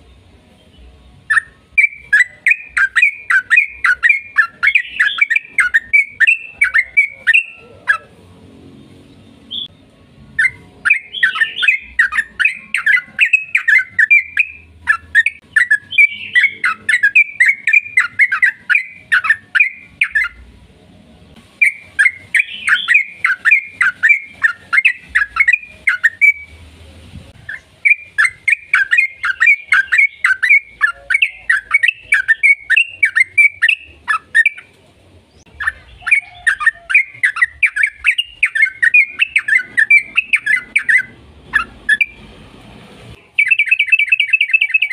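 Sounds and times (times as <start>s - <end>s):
bird rapid chattering song: 0.6s - 8.2s, 10.4s - 20.5s, 21.6s - 26.6s, 27.4s - 34.7s, 35.3s - 42.2s, 43.1s - 44.9s.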